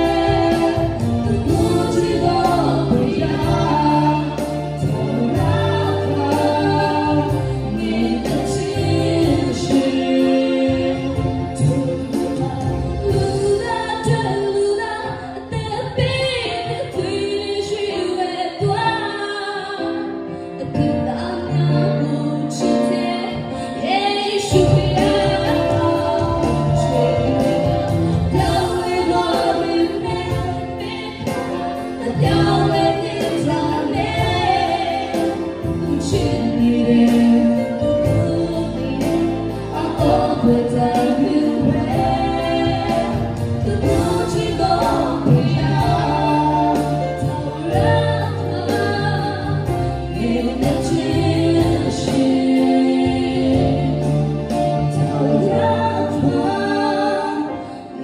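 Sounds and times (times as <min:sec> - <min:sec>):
man and woman singing gospel: 0:00.0 - 0:14.4, 0:20.7 - 0:58.0
instrumental accompaniment with bass: 0:00.0 - 0:58.0.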